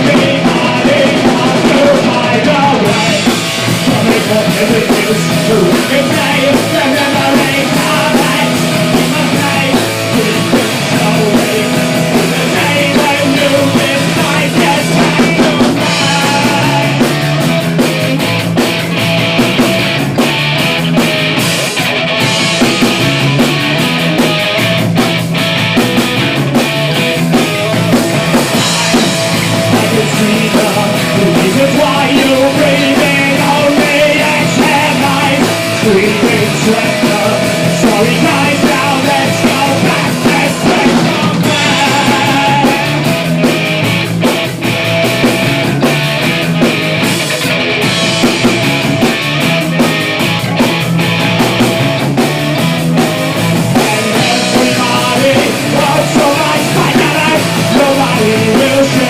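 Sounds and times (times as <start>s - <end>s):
punk rock song: 0.0s - 59.0s.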